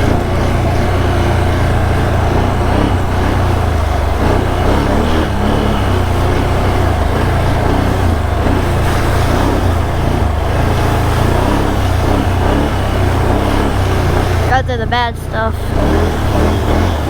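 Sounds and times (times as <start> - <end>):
atv engine droning: 0.0 - 17.0.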